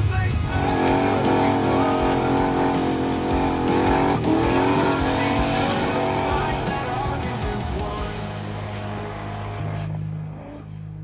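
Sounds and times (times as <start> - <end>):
car engine revving high: 0.4 - 11.0.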